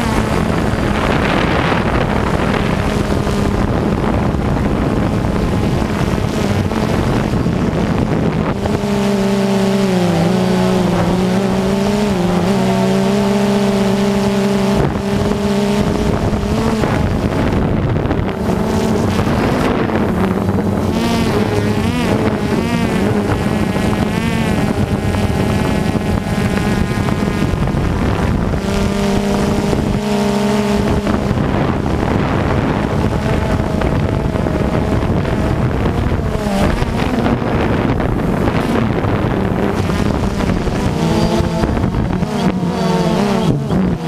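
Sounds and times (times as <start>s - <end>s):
electric motors and propellers whining: 0.0s - 44.0s
wind rushing over microphone: 0.0s - 44.0s.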